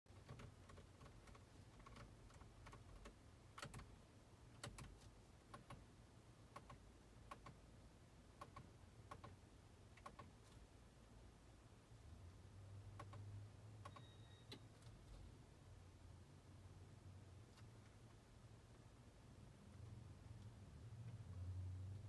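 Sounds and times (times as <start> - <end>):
low steady hum: 0.1 - 22.0.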